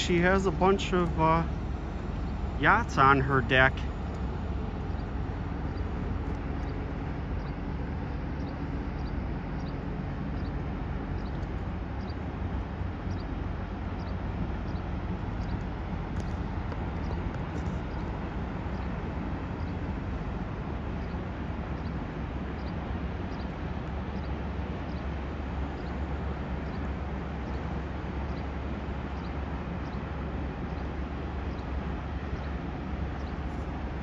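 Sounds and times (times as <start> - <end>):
ship engines rumbling: 0.0 - 34.0.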